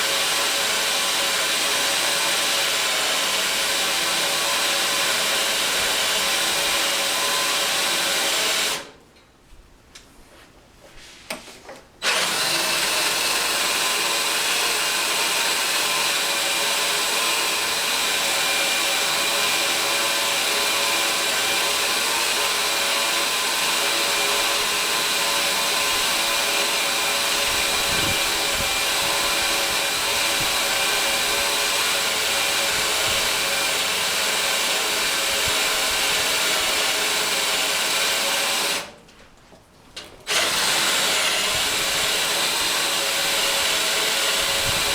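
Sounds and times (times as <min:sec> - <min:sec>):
power drill cutting steel: 0:00.0 - 0:09.0, 0:12.0 - 0:39.0, 0:40.3 - 0:44.9.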